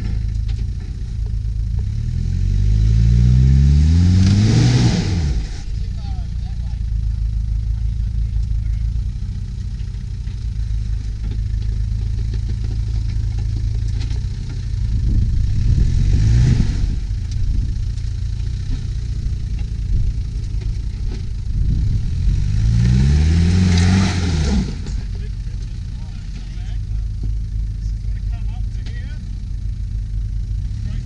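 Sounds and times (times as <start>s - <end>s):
vehicle engine revving under load: 0.0s - 31.0s.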